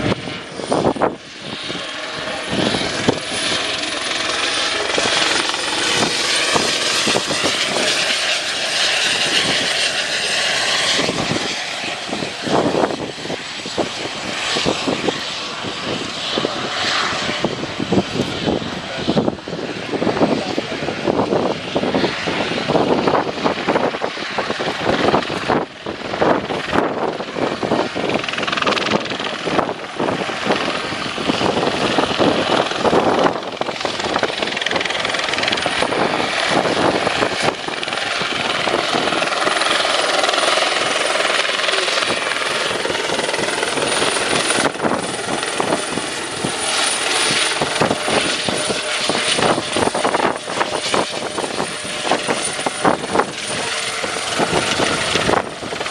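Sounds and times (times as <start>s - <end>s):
helicopter engine whine: 0.0s - 55.9s
helicopter rotor chop: 0.0s - 55.9s.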